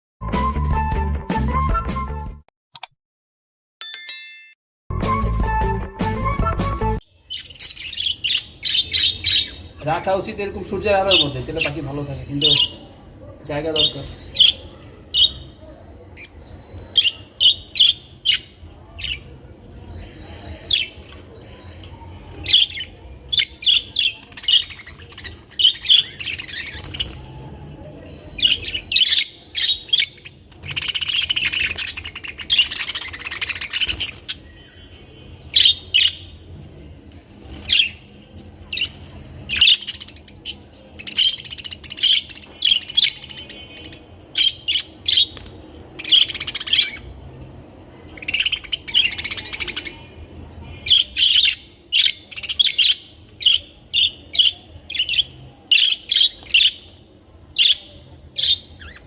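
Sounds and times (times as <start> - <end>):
budgerigars chirping and chattering: 7.3 - 12.9, 13.5 - 15.5, 16.2 - 27.4, 28.1 - 36.7, 37.3 - 59.0.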